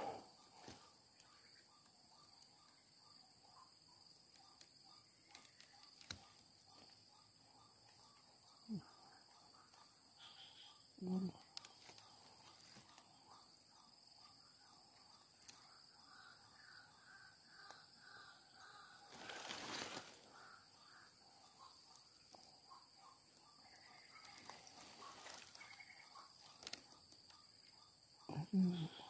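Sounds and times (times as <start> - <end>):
faint bird calls: 0.0 - 29.0
high drone of insects: 0.0 - 29.0.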